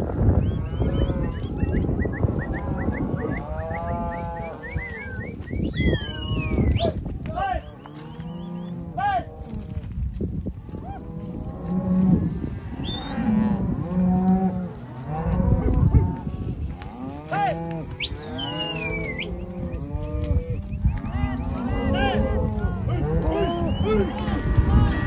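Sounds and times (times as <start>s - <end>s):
cows mooing: 0.0s - 6.9s, 7.5s - 10.0s, 10.6s - 25.0s
calves calling: 0.0s - 9.6s, 12.0s - 25.0s.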